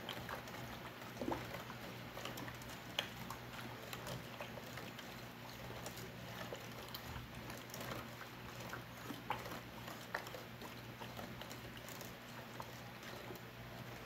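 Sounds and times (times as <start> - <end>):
spoon stirring thick sauce: 0.0 - 14.0.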